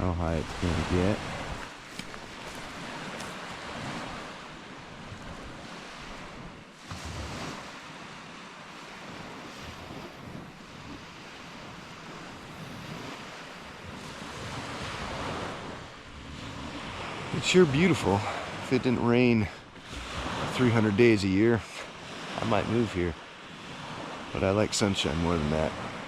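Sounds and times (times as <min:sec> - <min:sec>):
wind on microphone: 0:00.0 - 0:08.1, 0:08.8 - 0:24.5
ocean surf washing on shore: 0:00.0 - 0:26.0.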